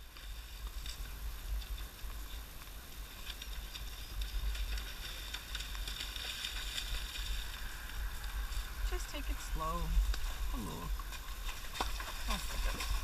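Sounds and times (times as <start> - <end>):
faint ticks and rustles: 0.0 - 13.0
wind or handling rumble: 0.0 - 13.0.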